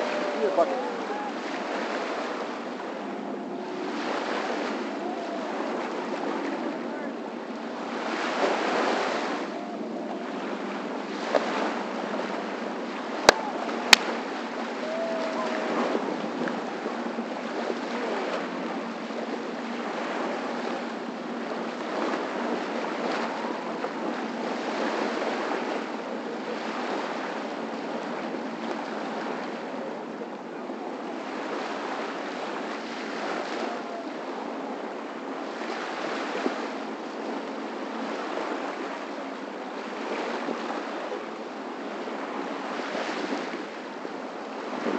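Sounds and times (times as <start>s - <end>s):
small waves washing on sand: 0.0s - 44.9s.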